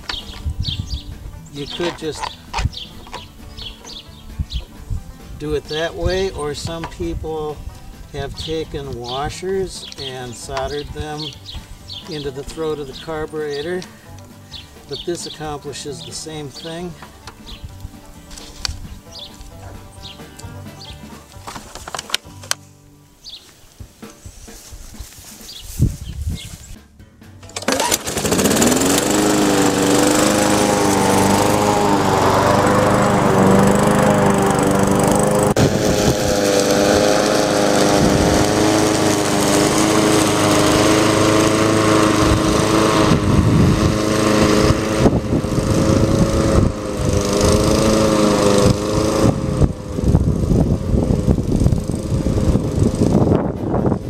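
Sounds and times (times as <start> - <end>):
lawnmower engine running: 0.0 - 22.6, 27.4 - 54.0.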